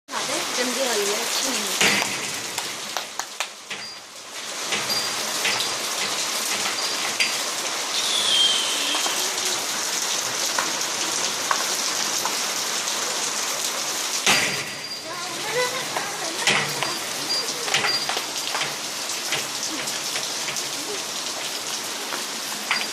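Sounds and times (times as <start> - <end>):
raindrops ticking on a surface: 0.1 - 22.9.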